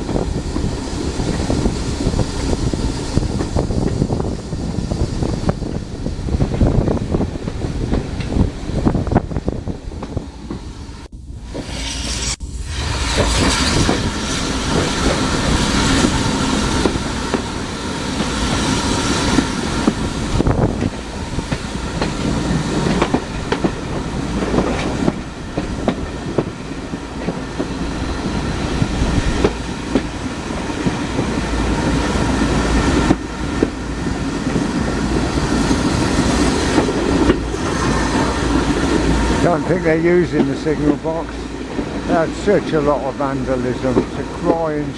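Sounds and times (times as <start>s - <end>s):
train rumbling along track: 0.0s - 44.9s.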